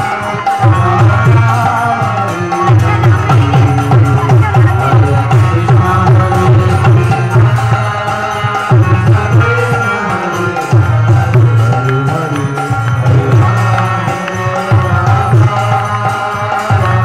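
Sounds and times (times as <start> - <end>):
devotional music: 0.0 - 17.0
hand drumming: 0.0 - 17.0.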